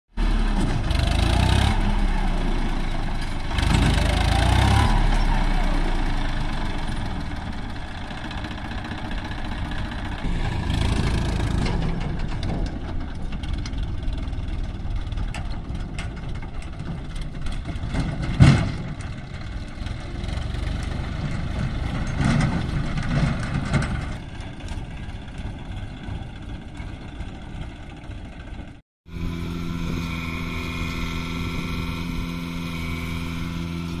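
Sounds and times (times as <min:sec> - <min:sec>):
tractor diesel engine under load: 0:00.1 - 0:34.0.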